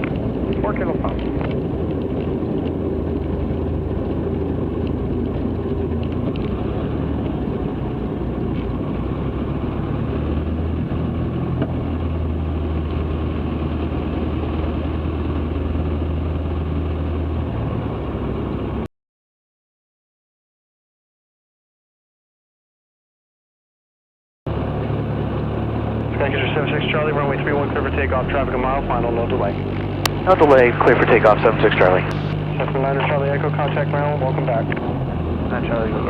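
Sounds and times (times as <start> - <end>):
aircraft engine running: 0.0 - 18.9, 24.5 - 36.0.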